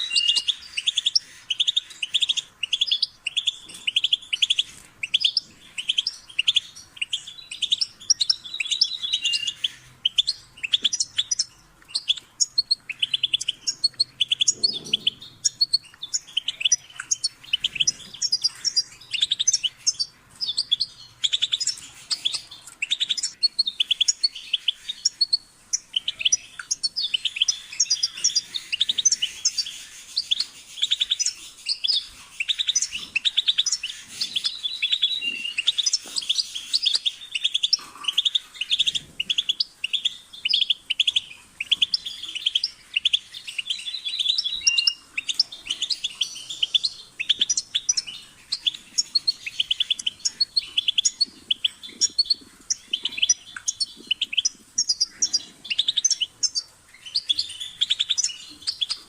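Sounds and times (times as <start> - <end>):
finch singing: 0.0 - 59.0.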